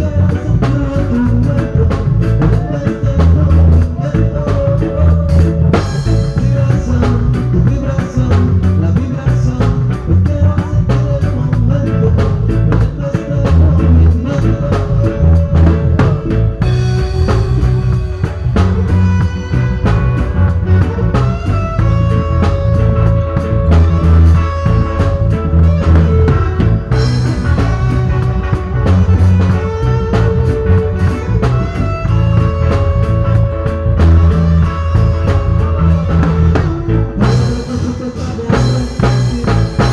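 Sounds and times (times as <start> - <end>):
live reggae band playing: 0.0 - 39.9.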